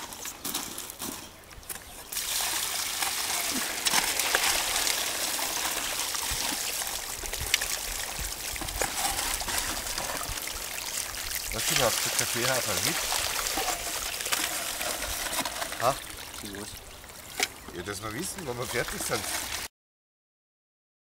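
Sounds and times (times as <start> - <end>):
water running down a metal sluice: 2.0 - 19.7.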